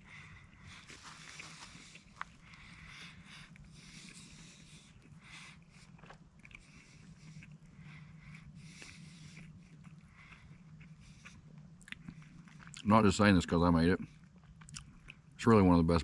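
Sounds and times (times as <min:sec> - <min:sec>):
person chewing sandwich: 0:00.0 - 0:15.4.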